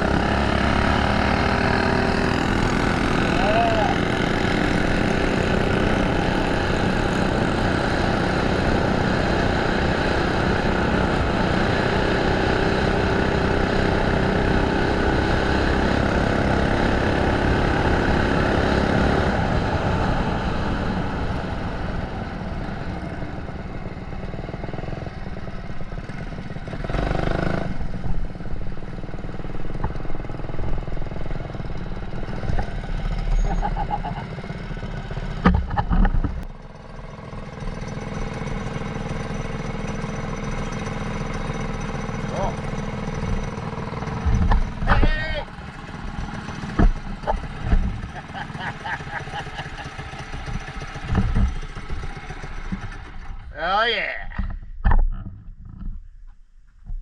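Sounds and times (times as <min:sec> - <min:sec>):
mini bike engine running hard: 0:00.0 - 0:53.6.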